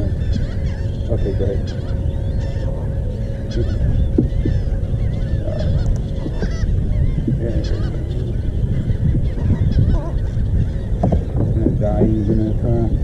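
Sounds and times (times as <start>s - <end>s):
many birds calling: 0.0s - 13.0s
wind rumble on microphone: 0.0s - 13.0s.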